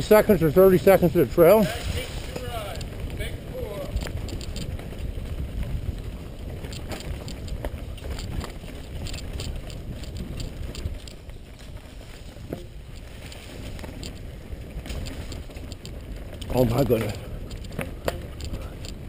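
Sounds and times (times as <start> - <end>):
bike clicks and rattles: 0.0 - 19.0
bike tyres rumbling on dirt: 0.0 - 19.0
wind: 0.0 - 19.0.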